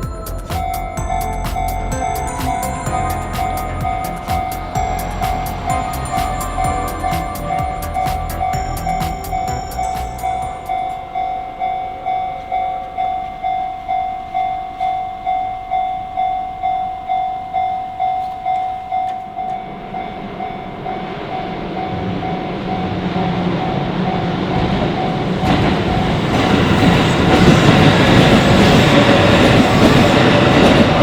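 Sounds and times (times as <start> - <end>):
level-crossing warning bell ringing: 0.0 - 31.0
train approaching: 0.0 - 31.0.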